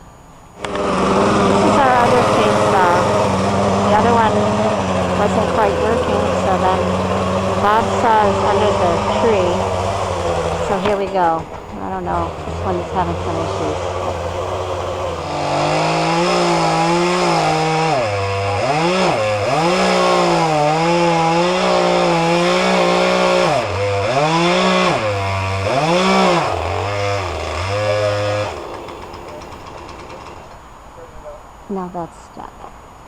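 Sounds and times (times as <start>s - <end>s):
chainsaw cutting: 0.0s - 31.1s.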